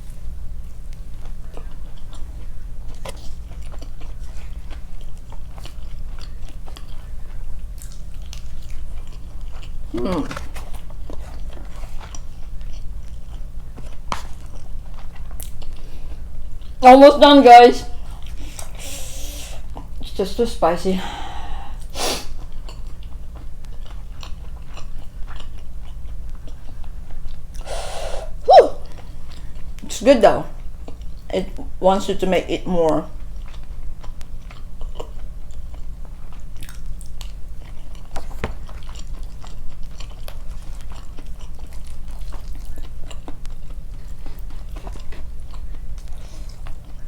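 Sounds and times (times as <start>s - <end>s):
chewing crunchy fried chicken: 0.0s - 16.9s, 17.9s - 20.1s, 21.0s - 27.8s, 28.8s - 47.0s
steady low hum: 0.0s - 47.0s.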